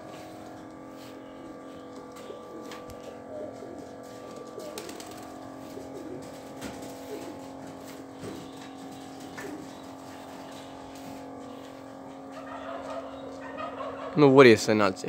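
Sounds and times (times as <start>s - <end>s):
pigeons cooing: 0.0s - 14.4s
steady hum: 0.0s - 15.0s.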